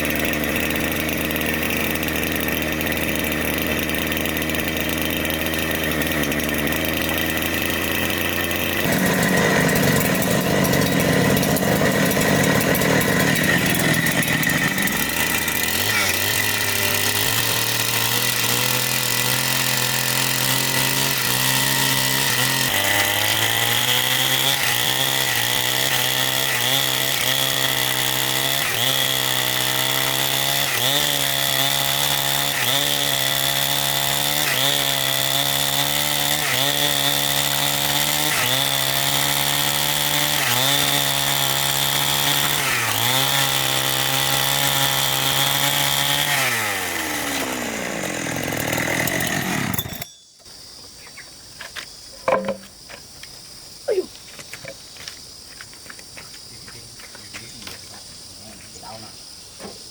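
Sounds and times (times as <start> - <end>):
chainsaw cutting at high speed: 0.0 - 50.1, 53.8 - 54.2.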